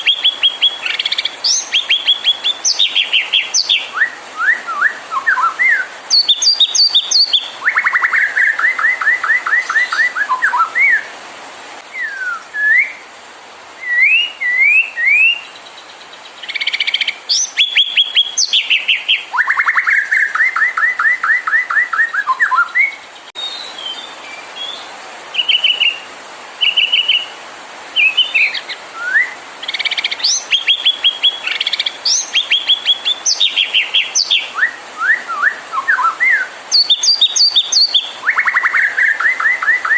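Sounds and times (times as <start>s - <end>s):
songbird singing varied song: 0.0s - 11.2s, 11.8s - 13.1s, 13.8s - 39.9s.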